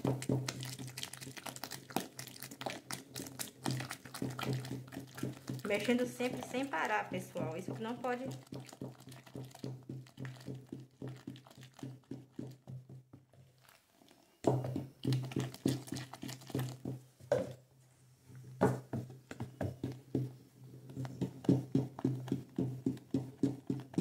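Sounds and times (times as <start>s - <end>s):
wooden spoon stirring in plastic tub: 0.0s - 17.6s, 18.4s - 24.0s.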